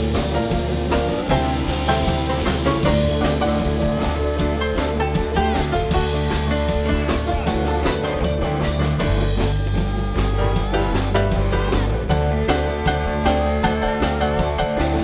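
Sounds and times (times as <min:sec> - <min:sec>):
drum kit beat: 0:00.0 - 0:15.0
live rock band instrumental: 0:00.0 - 0:15.0.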